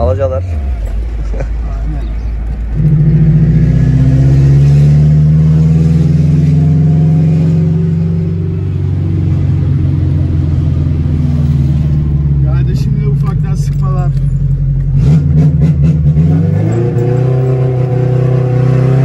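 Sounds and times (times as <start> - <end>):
car engine droning through exhaust: 0.0 - 19.0.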